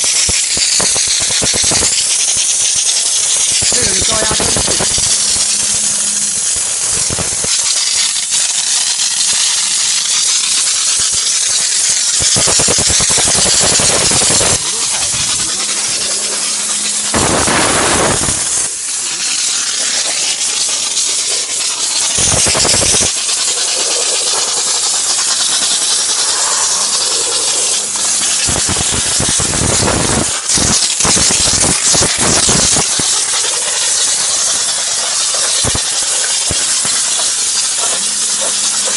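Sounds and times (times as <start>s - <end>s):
steam hissing from steam gun: 0.0s - 38.9s.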